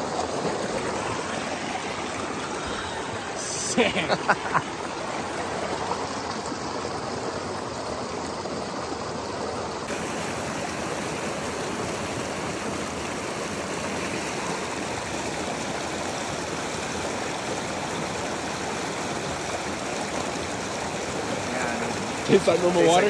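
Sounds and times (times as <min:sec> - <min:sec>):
mountain stream running: 0:00.0 - 0:23.0.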